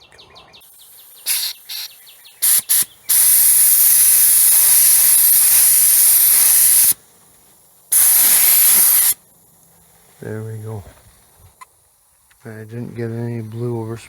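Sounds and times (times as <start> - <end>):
paint spraying: 0.6 - 13.9.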